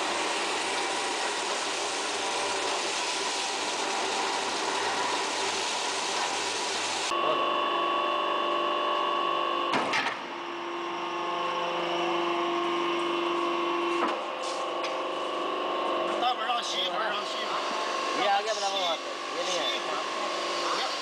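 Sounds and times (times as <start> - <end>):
machinery hum with whining tones: 0.0 - 21.0.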